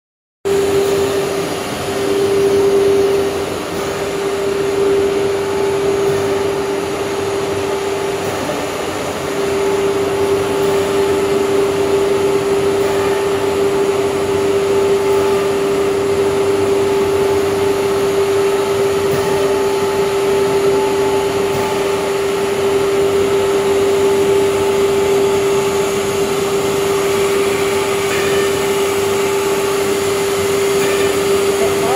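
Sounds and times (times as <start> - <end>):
router spindle whine: 0.5 - 31.9.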